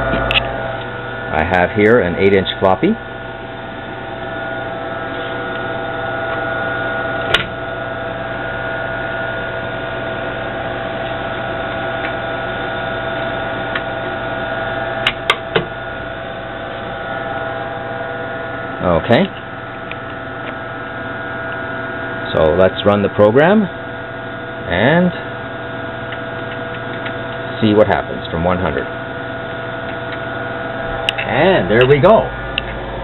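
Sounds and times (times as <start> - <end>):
floppy drive humming: 0.0 - 33.0.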